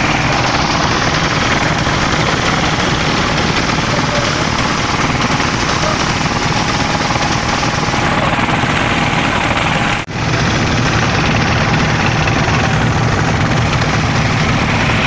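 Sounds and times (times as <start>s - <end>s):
boat engine running: 0.0s - 15.0s
water washing along hull: 0.0s - 15.0s.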